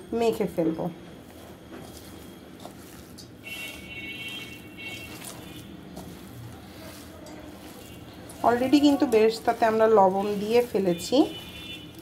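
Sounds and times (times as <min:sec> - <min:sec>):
hand kneading wet food: 0:00.4 - 0:12.0.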